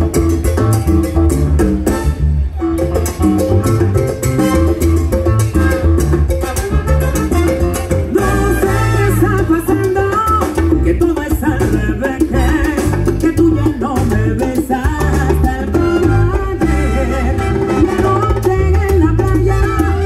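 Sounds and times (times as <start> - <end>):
congas and percussion: 0.0 - 20.0
salsa band playing: 0.0 - 20.0.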